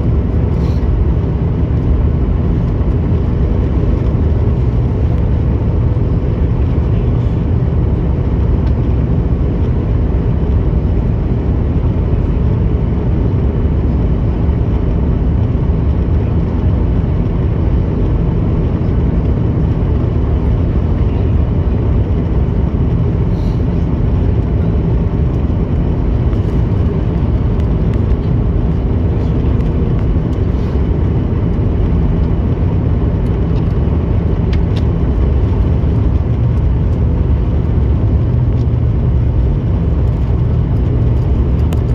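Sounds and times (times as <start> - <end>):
jet airliner cabin noise: 0.0 - 41.9.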